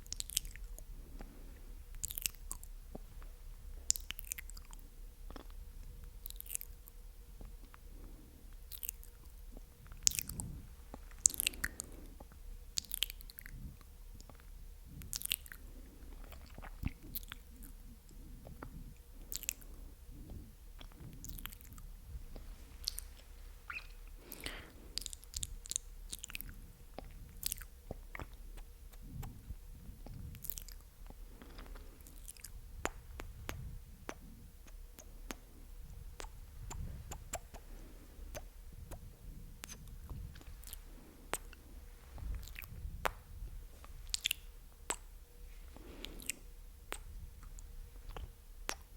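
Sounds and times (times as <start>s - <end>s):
wet mouth clicks and smacks: 0.1s - 1.3s, 1.9s - 3.1s, 3.9s - 5.6s, 8.6s - 13.6s, 14.2s - 15.6s, 16.2s - 17.8s, 20.3s - 41.6s, 42.2s - 45.2s, 45.8s - 48.9s.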